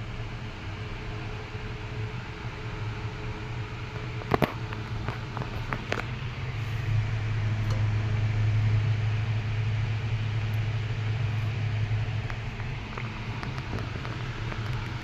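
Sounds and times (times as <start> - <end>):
fan motor hum: 0.0 - 15.0.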